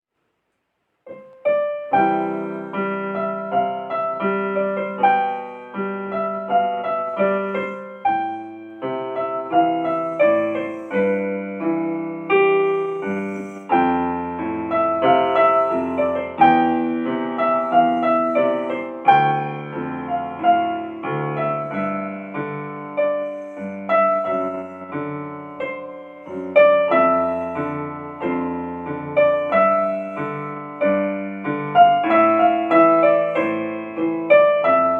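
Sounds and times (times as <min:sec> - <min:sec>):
solo piano music: 0:01.0 - 0:34.9.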